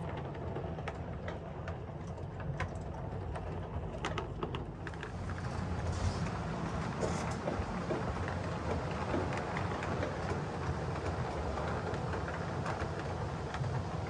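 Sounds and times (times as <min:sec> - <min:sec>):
model train rumbling on track: 0:00.0 - 0:14.0.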